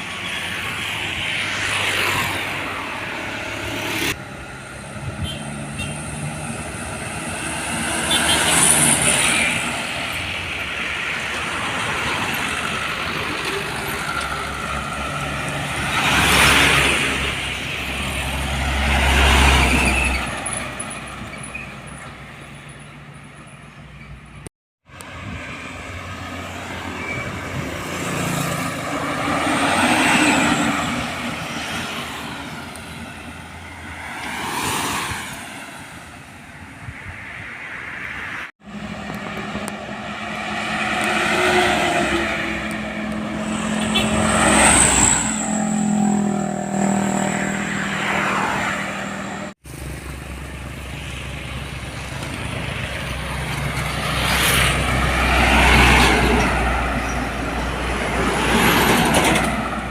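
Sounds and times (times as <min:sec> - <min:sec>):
heavy trucks driving past: 0:00.0 - 0:36.2, 0:36.8 - 0:59.9.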